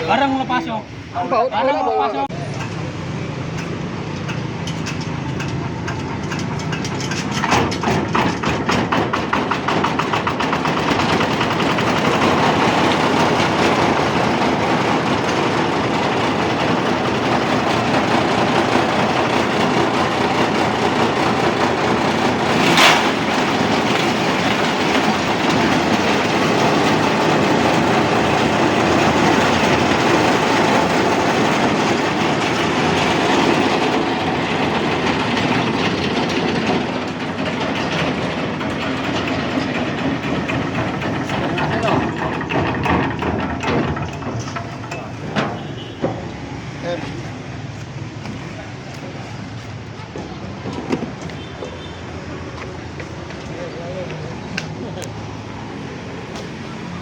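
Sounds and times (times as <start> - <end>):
diesel engine knocking: 2.3 - 57.0.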